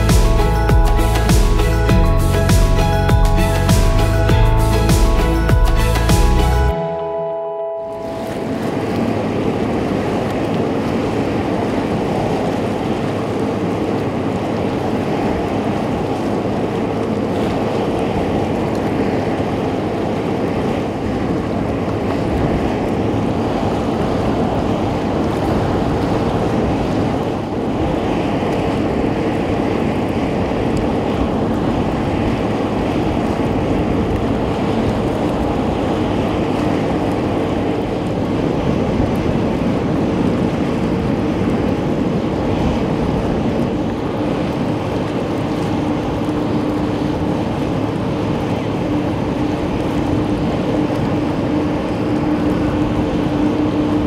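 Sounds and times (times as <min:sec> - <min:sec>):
choppy sea: 0:00.0 - 0:54.0
ferry engine low hum: 0:00.0 - 0:54.0
wind buffeting microphone: 0:08.3 - 0:54.0.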